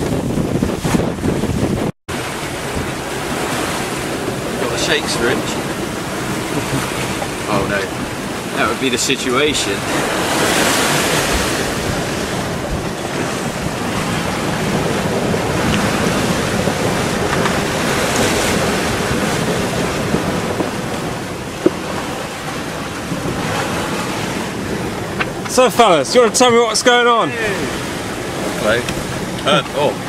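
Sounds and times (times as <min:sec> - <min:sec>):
rough sea rushing along hull: 0:00.0 - 0:30.0
wind buffeting microphone: 0:00.0 - 0:30.0.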